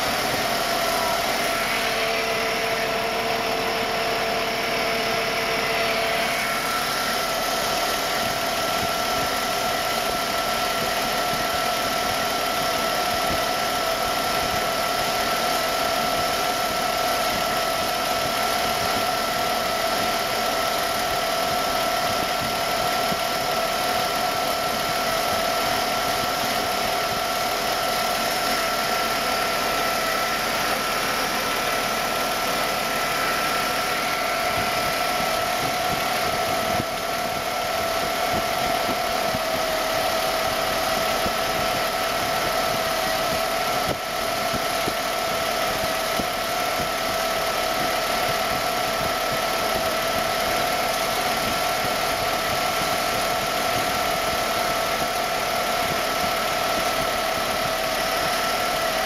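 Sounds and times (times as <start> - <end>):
car engine idling: 0.0 - 59.0
steady whine: 0.0 - 59.0.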